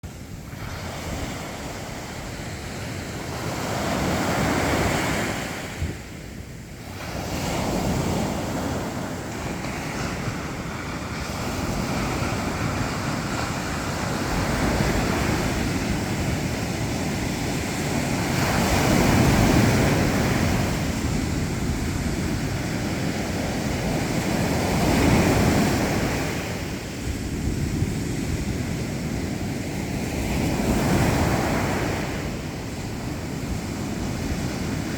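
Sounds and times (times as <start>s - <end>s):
waves breaking and washing ashore: 0.0s - 34.9s.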